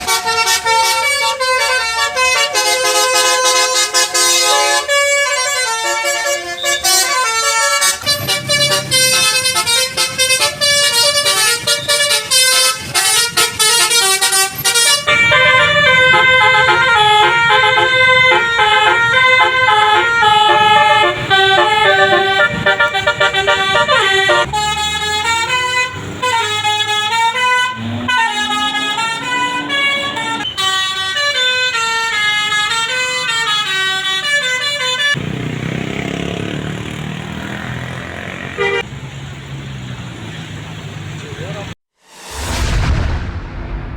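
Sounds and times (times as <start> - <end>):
bus musical air horns: 0.0 - 38.9
bus engine running: 0.0 - 41.8.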